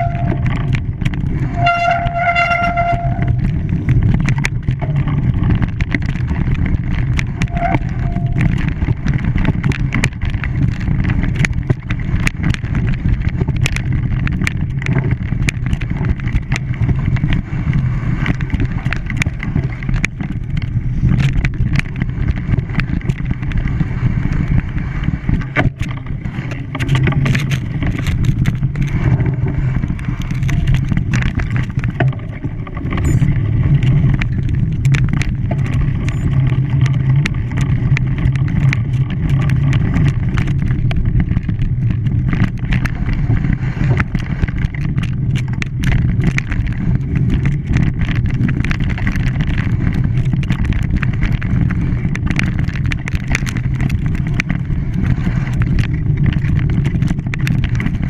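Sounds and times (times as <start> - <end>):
rattles and knocks: 0.0 - 58.0
vehicle engine humming: 0.0 - 58.0.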